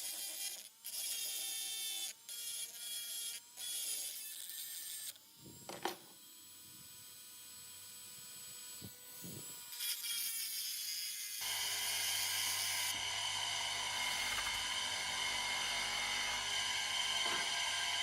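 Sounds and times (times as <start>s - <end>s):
power tool motor whirring: 0.0s - 18.0s.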